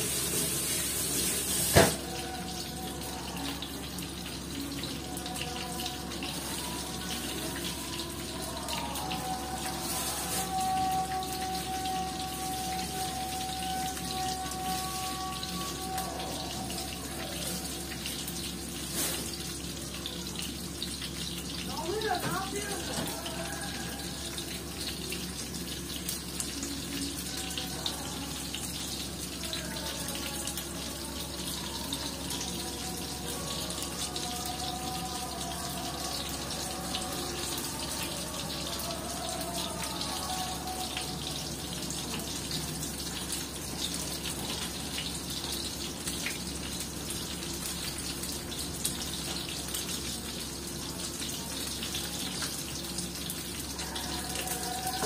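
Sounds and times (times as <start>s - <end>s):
onions frying in a pan: 0.0s - 55.0s.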